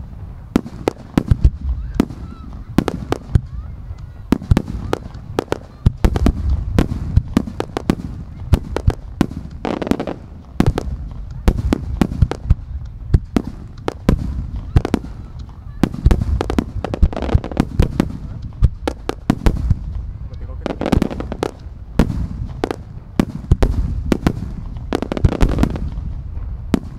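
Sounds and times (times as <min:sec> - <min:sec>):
fireworks bangs: 0:00.0 - 0:26.9.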